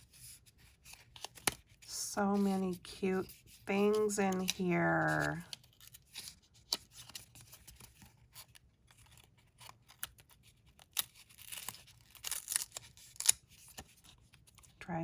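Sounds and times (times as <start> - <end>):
paper pages rustling: 0.0 - 14.8.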